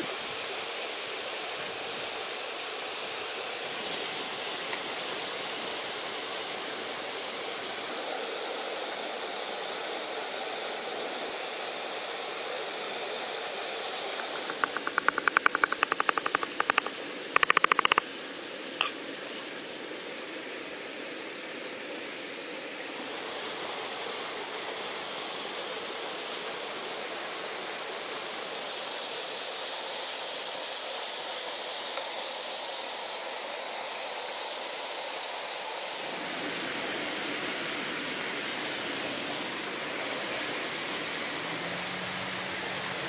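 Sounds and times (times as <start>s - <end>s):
stream rushing: 0.0s - 43.0s.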